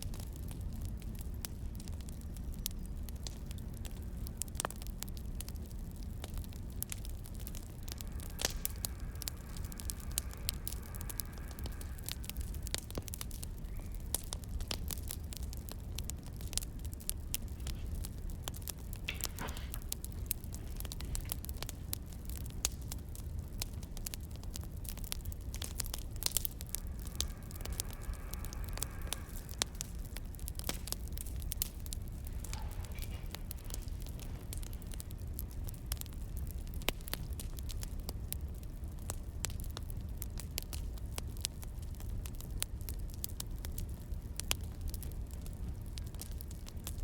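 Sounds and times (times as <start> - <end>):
firewood crackling and popping: 0.0 - 47.0.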